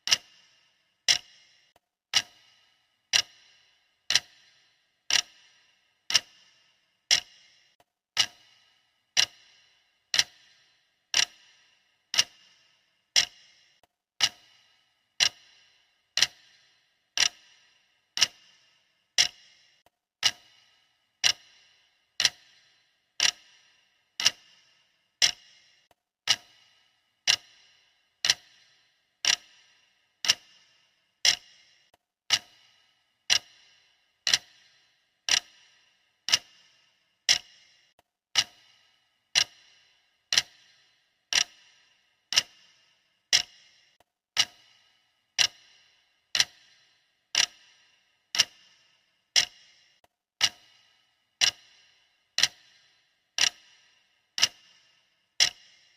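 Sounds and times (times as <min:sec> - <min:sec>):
timer ticking with metallic ring: 0:00.0 - 0:55.9.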